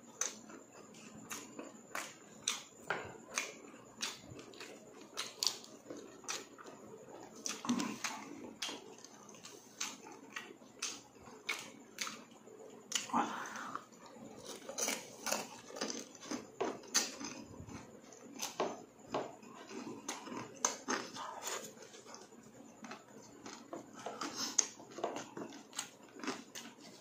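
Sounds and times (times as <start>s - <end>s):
chewing and lip-smacking: 0.1s - 27.0s.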